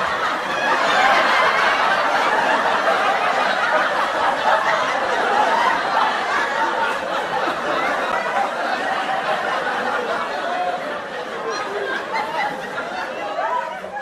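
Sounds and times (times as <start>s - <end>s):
audience laughing and chattering: 0.0s - 14.0s.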